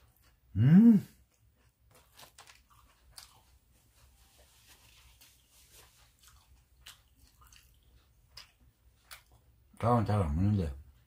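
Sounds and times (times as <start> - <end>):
chewing crispy fried chicken: 0.0 - 11.0.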